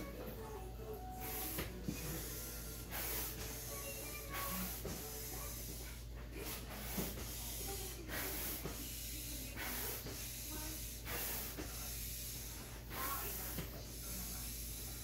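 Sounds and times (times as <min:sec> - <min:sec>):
air pump hissing strokes: 0:01.0 - 0:15.0.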